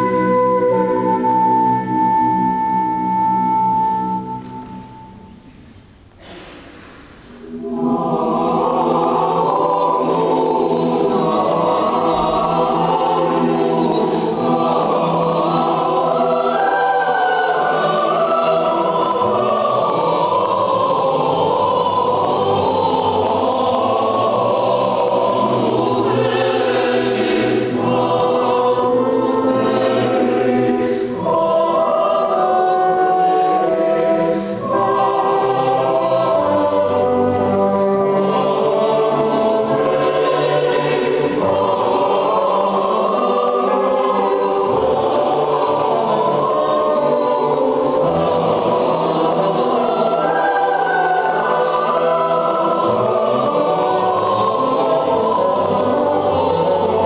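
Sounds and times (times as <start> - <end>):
mixed choir singing: 0.0 - 5.1, 7.2 - 57.0.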